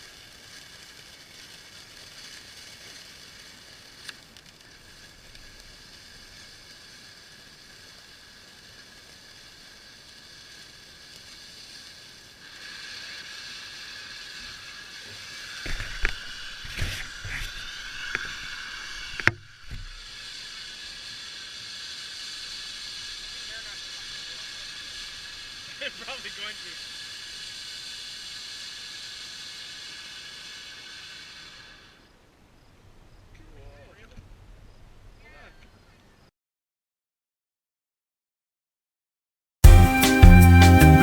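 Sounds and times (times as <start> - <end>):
firework fountain hissing: 0.0 - 35.6.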